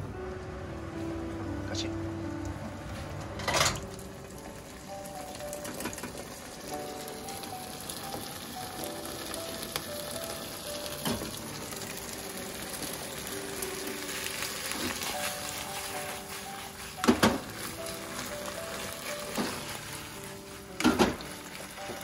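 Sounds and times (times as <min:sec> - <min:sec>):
food sizzling in oil: 0:03.8 - 0:22.0.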